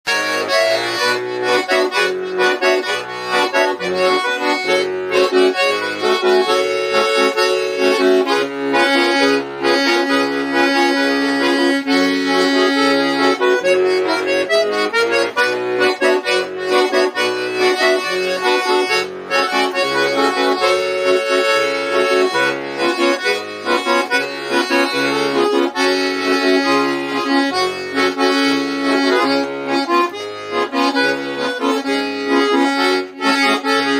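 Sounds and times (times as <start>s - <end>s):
accordion playing slow song: 0.1s - 33.9s.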